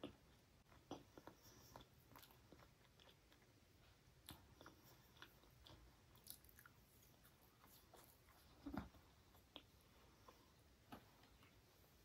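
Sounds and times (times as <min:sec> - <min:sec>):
mouth chewing sounds: 0:00.0 - 0:10.4.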